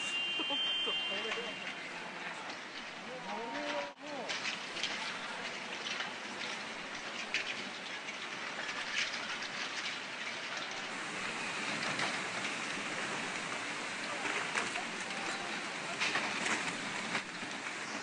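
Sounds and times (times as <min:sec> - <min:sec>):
floodwater rushing: 0:00.0 - 0:18.0
debris crackling in water: 0:01.5 - 0:18.0.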